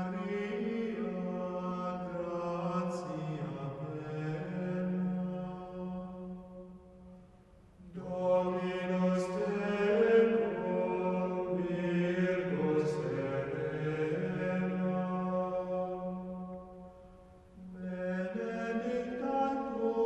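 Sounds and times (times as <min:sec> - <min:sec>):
slow sacred vocal chant: 0:00.0 - 0:20.0.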